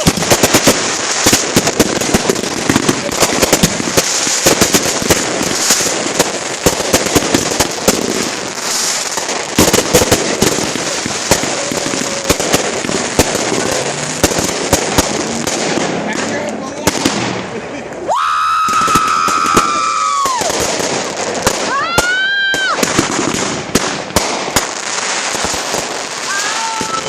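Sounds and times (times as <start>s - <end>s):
firecrackers popping and banging: 0.0s - 27.0s.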